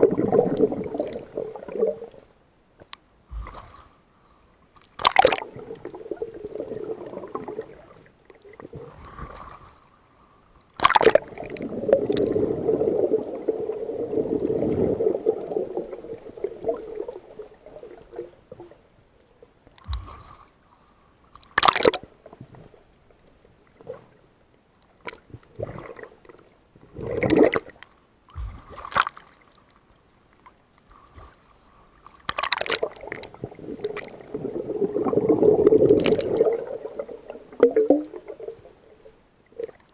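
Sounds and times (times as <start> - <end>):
water sloshing and gurgling: 0.0 - 2.4, 3.2 - 20.6, 25.0 - 39.9.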